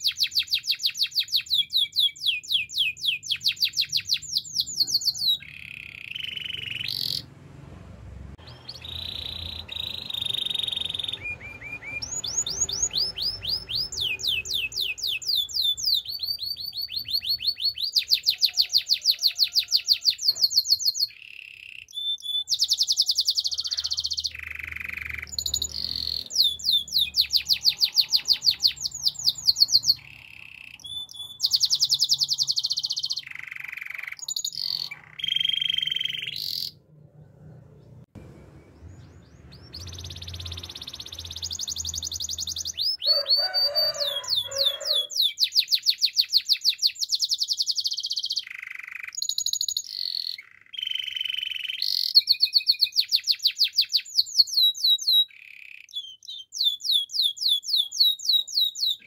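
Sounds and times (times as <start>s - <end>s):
canary singing trills: 0.0s - 7.6s, 8.4s - 59.0s.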